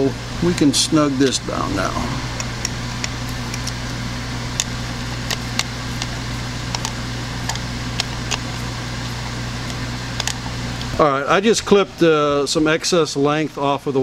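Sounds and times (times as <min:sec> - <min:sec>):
ventilation hum: 0:00.0 - 0:14.0.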